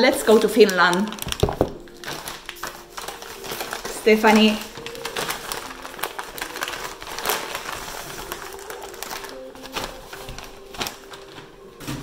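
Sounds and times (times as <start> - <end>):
gift packaging rustling and crinkling: 0.0 - 12.0
packaging tearing: 0.1 - 12.0.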